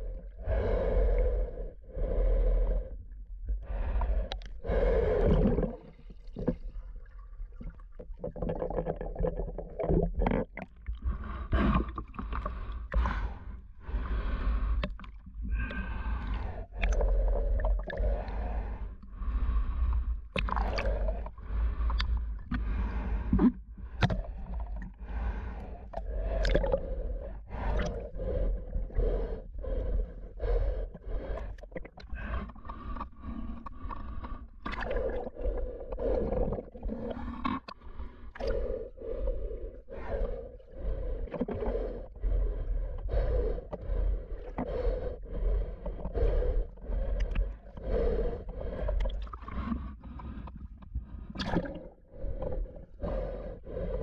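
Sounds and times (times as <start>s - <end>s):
muffled water sloshing and splashing: 3.6s - 54.0s.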